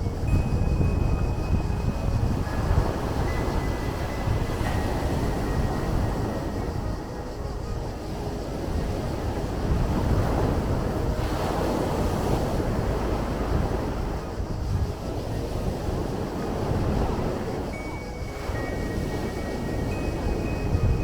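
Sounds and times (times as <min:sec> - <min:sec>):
sea waves washing: 0:00.0 - 0:21.0.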